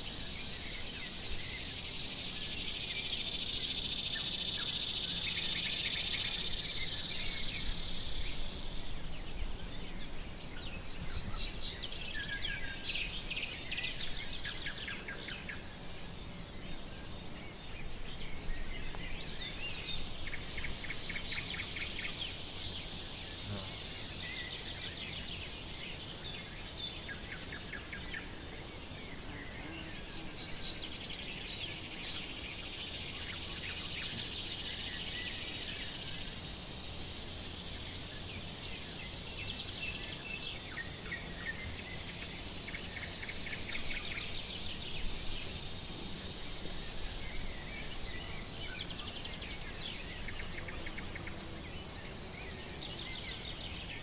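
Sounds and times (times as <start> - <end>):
constant insect hiss: 0.0 - 54.0
high insect chirp: 0.0 - 54.0.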